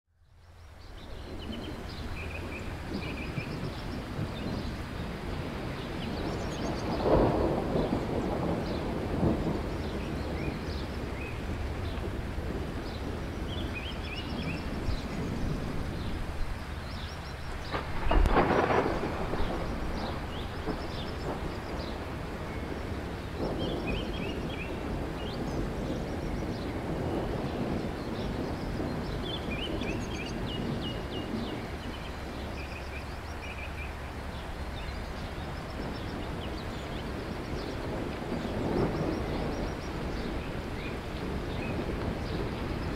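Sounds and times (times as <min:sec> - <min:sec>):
small birds chirping: 0:00.3 - 0:42.9
thunder rumbling: 0:00.6 - 0:42.9.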